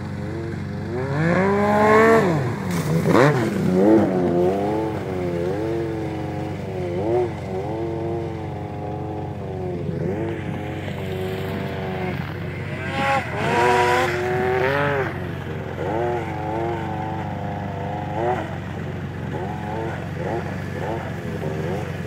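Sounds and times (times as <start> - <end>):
low drone: 0.0 - 22.0
snowmobile engine revving: 0.0 - 22.0.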